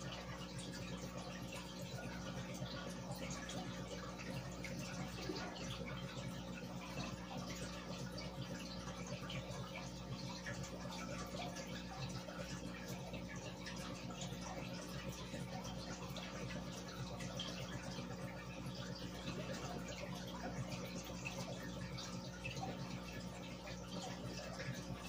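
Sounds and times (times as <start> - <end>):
air bubbles fizzing in water: 0.0 - 25.0.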